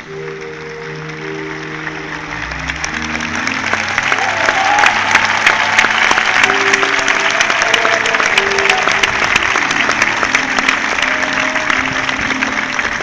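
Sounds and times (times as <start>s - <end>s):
applause: 0.0s - 13.0s
slow melody of held notes: 0.0s - 13.0s.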